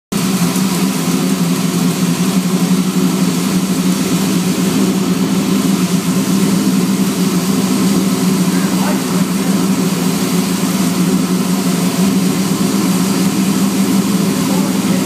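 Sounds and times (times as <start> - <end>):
car engine idling: 0.2 - 15.0.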